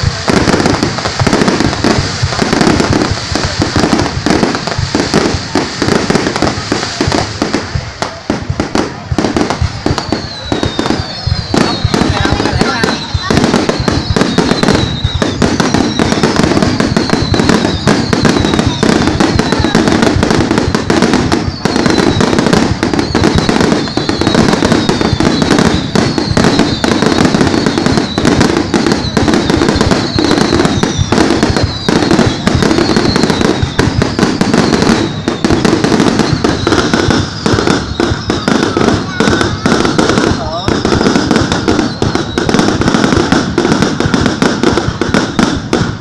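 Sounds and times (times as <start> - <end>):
falling firework whistles: 0.0 - 46.0
fireworks bangs and crackles: 0.0 - 46.0.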